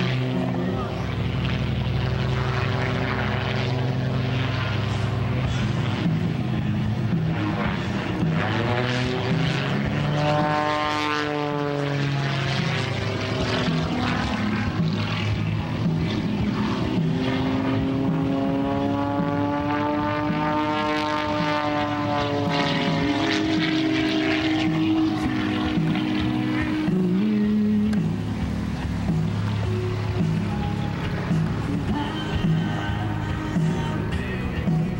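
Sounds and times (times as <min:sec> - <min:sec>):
propeller plane engine running hard: 0:00.0 - 0:34.9.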